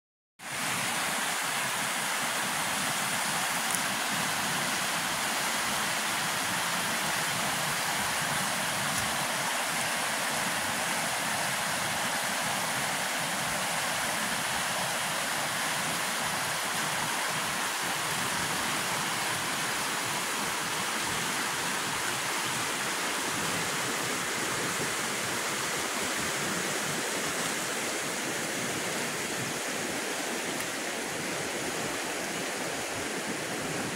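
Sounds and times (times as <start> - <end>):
floodwater rushing: 0.4 - 33.9.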